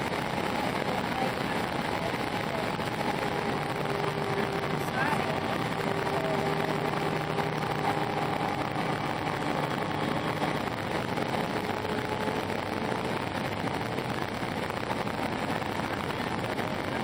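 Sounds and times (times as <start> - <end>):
airliner cabin engine rush: 0.0 - 17.0
faint low hum: 0.0 - 17.0
faint voices murmuring: 0.0 - 17.0.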